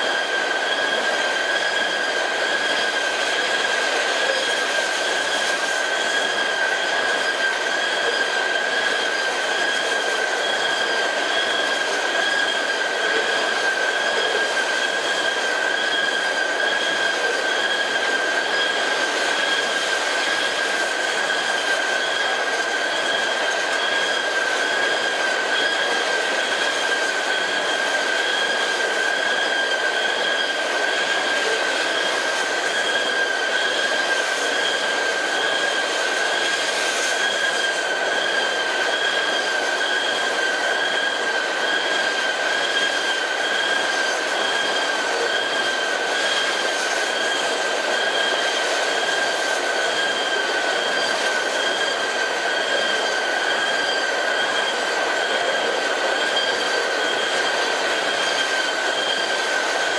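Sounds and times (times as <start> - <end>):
high-pitched wheel squeal: 0.0 - 59.9
train cars rolling on rails: 0.0 - 59.9.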